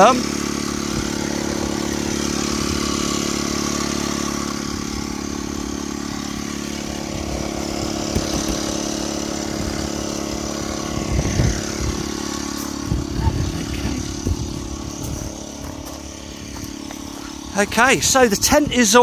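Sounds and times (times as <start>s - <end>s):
electric air pump humming: 0.0s - 19.0s
wind buffeting microphone: 0.8s - 3.8s, 4.6s - 19.0s.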